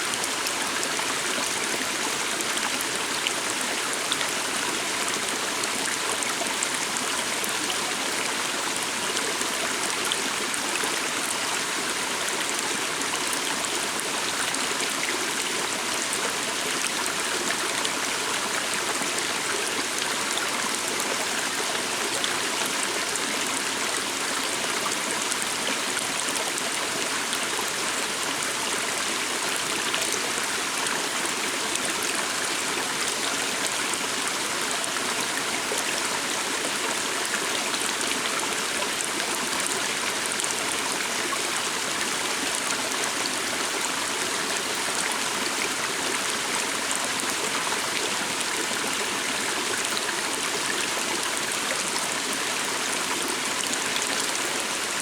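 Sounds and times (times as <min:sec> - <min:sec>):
forest stream running: 0:00.0 - 0:55.0.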